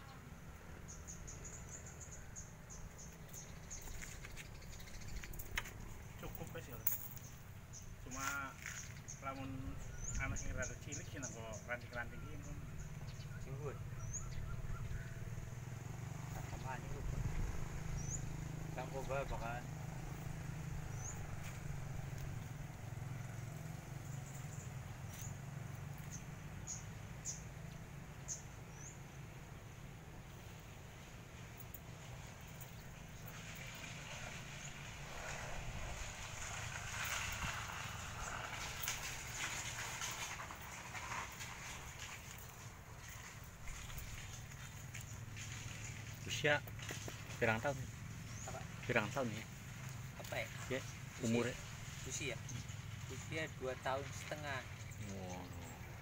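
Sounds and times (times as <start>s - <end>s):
insect chirping: 0.0s - 56.0s
low engine hum: 9.0s - 56.0s.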